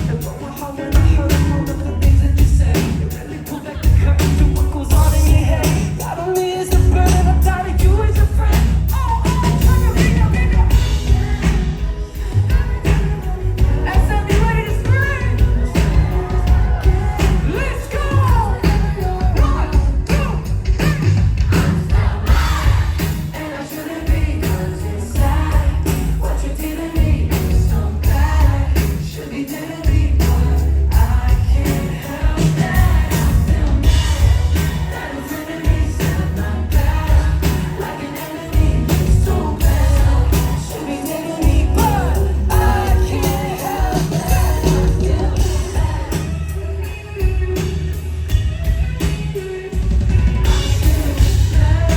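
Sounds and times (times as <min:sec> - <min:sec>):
lead vocal singing: 0:00.0 - 0:47.6, 0:50.4 - 0:51.9
live band music: 0:00.0 - 0:51.9.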